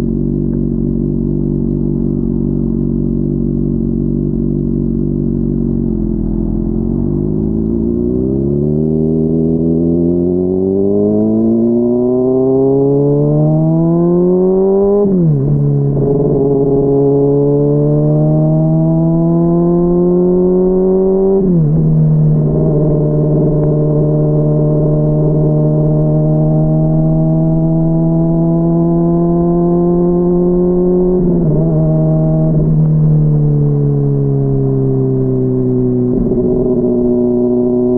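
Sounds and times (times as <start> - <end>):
muffled motorcycle engine revving: 0.0 - 37.9.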